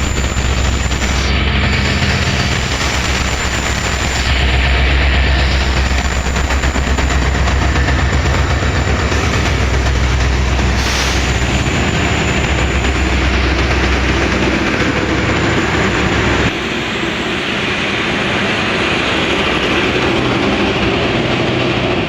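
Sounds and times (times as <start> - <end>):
diesel locomotive rumble: 0.0 - 22.0
train wheel and rail noise: 0.0 - 22.0.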